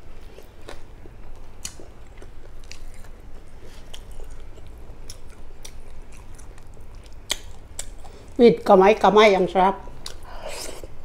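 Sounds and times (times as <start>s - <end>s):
person chewing food: 0.2s - 8.4s, 10.0s - 11.0s.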